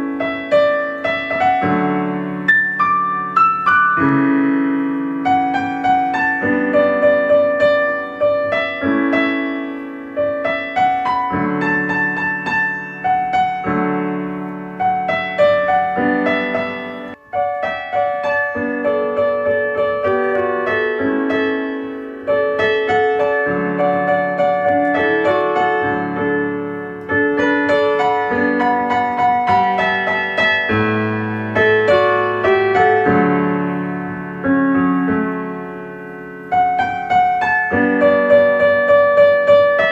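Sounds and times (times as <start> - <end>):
slow solo piano music: 0.0 - 39.9.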